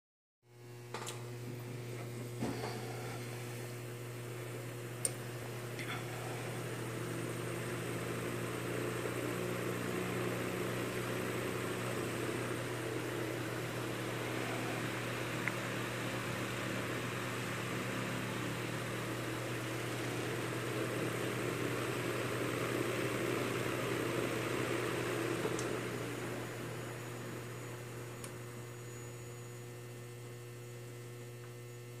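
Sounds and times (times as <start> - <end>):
electric fan motor hum: 0.5 - 32.0.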